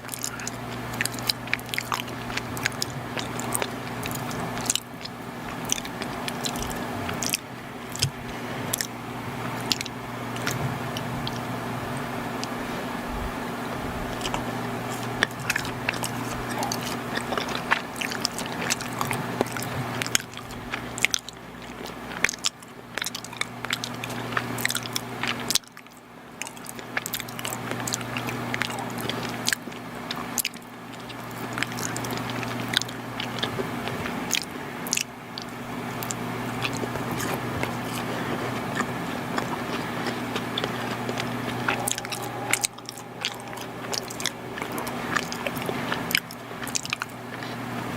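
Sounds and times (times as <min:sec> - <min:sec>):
wet mouth clicks: 0:00.0 - 0:12.6, 0:14.0 - 0:47.6
chewing and biting: 0:00.0 - 0:12.9, 0:13.7 - 0:47.9
steady low hum: 0:00.0 - 0:47.9.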